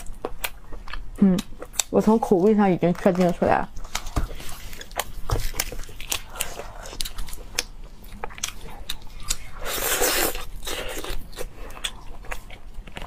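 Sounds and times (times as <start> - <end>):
person chewing meat: 0.0 - 1.9, 3.8 - 13.0.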